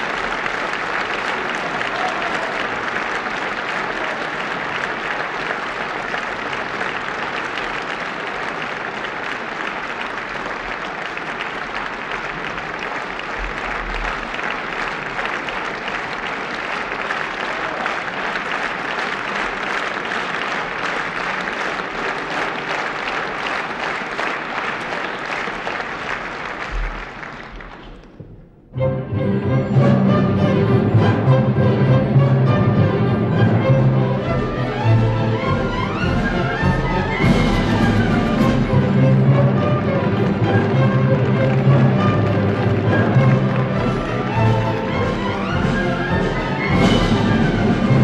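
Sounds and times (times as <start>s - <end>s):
large audience applauding: 0.0s - 28.7s, 32.0s - 48.0s.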